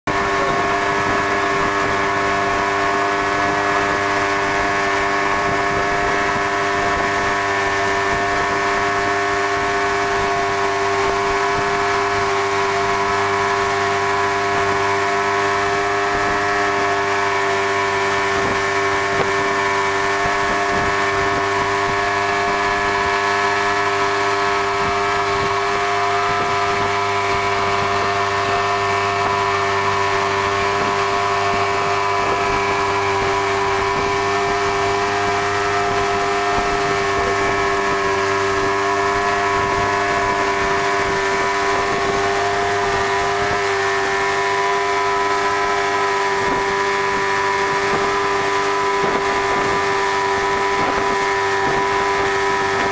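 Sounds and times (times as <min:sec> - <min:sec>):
motorboat engine drone: 0:00.0 - 0:52.9
wind and water hiss: 0:00.1 - 0:52.9.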